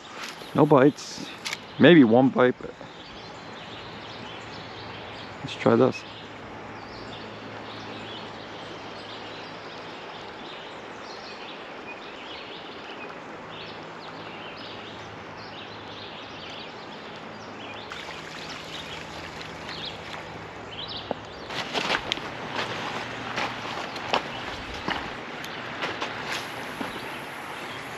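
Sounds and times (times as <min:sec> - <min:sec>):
creek water running: 0:00.0 - 0:27.9.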